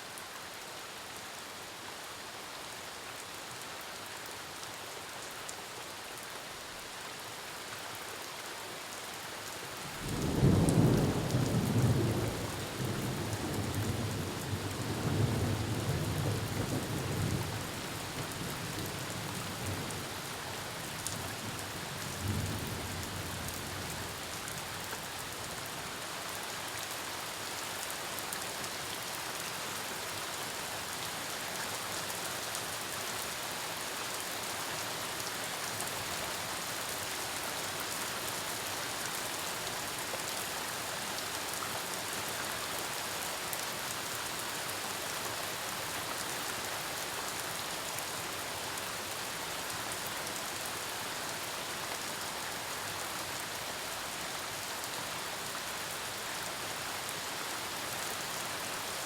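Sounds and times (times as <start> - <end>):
heavy rain falling: 9.7 - 59.0.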